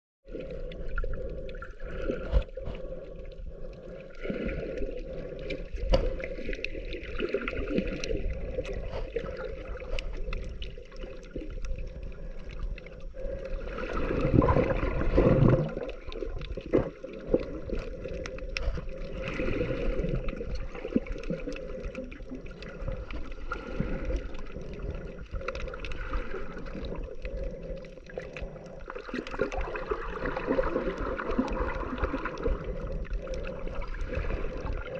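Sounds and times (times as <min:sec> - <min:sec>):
muffled underwater sloshing: 0:00.3 - 0:34.9
surge of water: 0:03.8 - 0:34.9.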